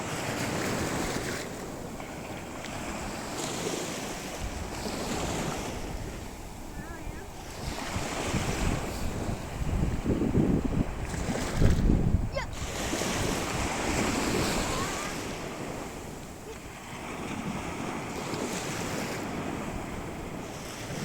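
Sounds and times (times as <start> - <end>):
sea waves washing onto beach: 0.0 - 21.0
wind buffeting microphone: 0.0 - 21.0.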